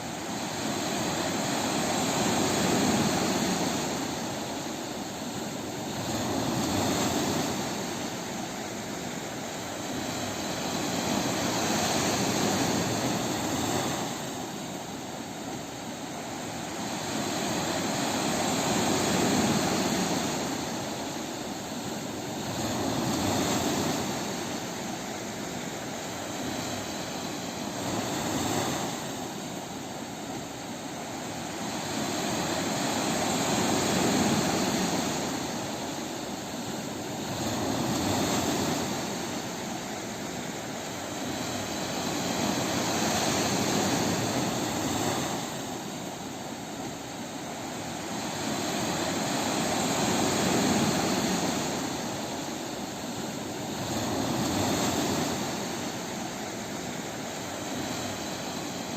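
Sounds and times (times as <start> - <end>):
sea waves breaking on beach: 0.0 - 58.9.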